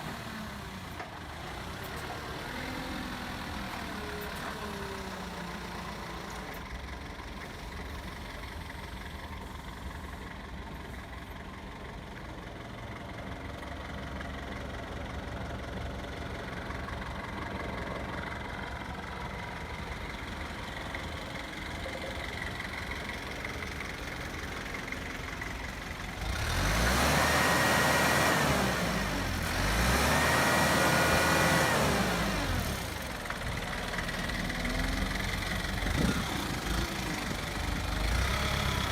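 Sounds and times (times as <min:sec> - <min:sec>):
forklift engine idling and revving: 0:00.0 - 0:38.9.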